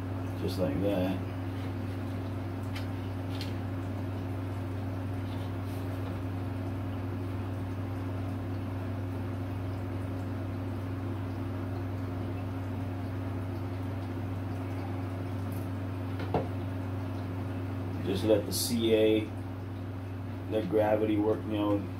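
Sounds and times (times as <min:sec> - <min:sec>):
low room hum: 0:00.0 - 0:21.9.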